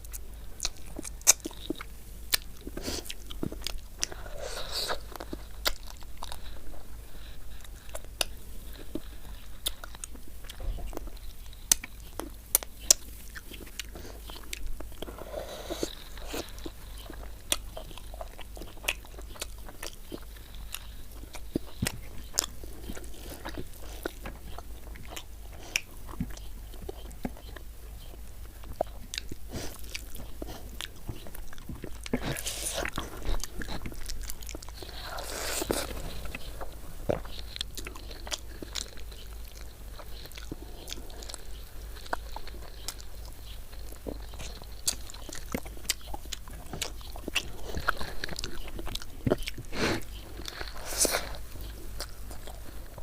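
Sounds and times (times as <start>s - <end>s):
low steady hum: 0.0s - 53.0s
mouth chewing food: 0.0s - 53.0s.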